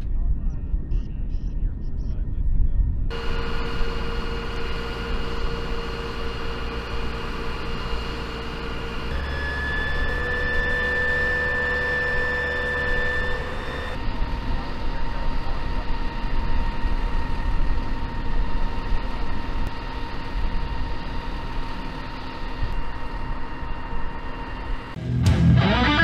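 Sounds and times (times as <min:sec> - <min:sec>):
jet engine idling whine: 0:00.0 - 0:25.0.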